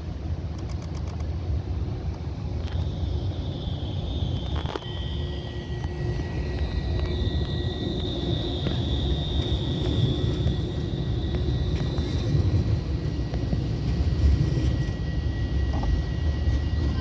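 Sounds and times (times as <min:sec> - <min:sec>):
high steady whine: 0:00.0 - 0:17.0
tram wheels rumbling on rails: 0:00.0 - 0:17.0.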